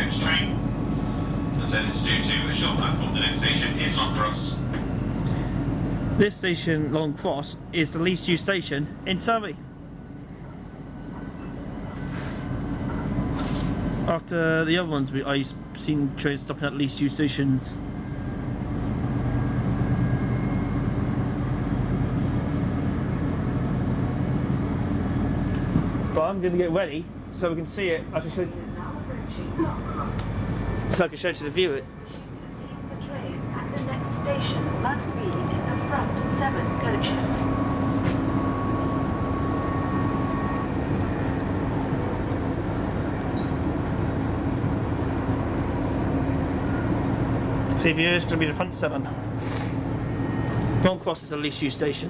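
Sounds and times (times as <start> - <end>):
faint high whine: 0.0 - 8.9, 14.4 - 49.2
train wheels rumbling on rail: 0.0 - 52.0.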